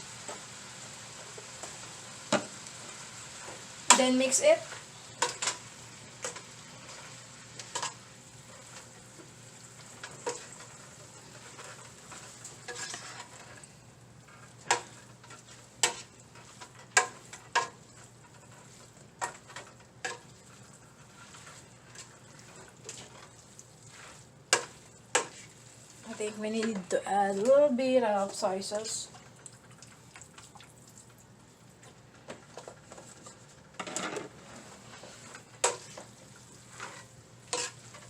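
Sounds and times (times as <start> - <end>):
low sizzle: 0.0 - 38.0
utensil stirring noodles: 2.8 - 33.6, 34.4 - 38.0.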